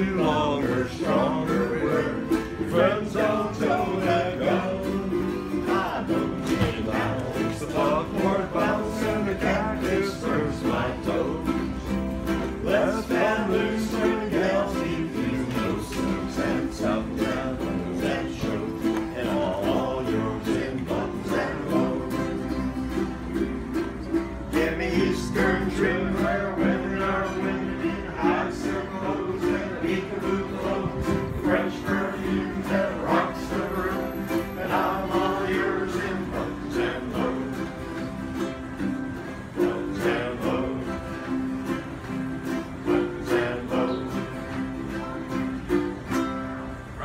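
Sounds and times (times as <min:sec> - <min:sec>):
ukuleles and acoustic guitar strumming: 0:00.0 - 0:47.0.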